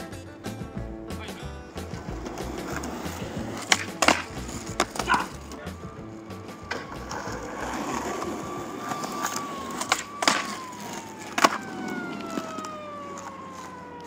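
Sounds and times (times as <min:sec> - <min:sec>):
skateboard clacking: 0:00.0 - 0:14.0
skateboard wheels rolling on asphalt: 0:00.0 - 0:14.0.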